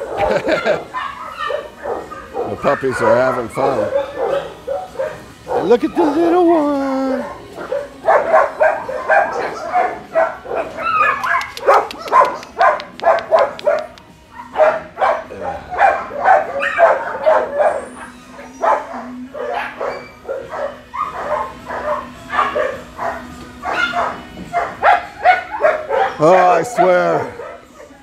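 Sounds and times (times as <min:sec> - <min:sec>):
dogs barking and yipping: 0:00.0 - 0:28.0.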